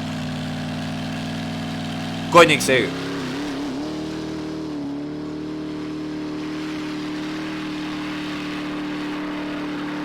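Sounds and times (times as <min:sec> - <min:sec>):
car engine at high revs: 0:00.0 - 0:02.3, 0:02.9 - 0:10.0.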